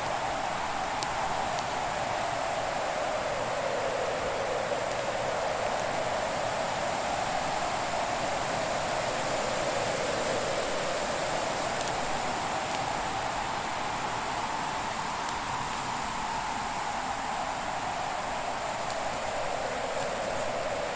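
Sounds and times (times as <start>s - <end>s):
faint fire crackles: 0.0s - 20.9s
fire hissing in a fireplace: 0.0s - 20.9s.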